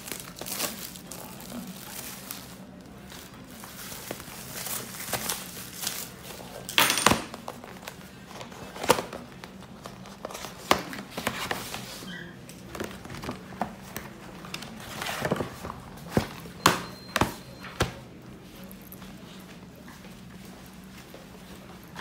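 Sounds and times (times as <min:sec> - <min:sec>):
cardboard and fabric rustling: 0:00.0 - 0:06.7, 0:07.3 - 0:19.5.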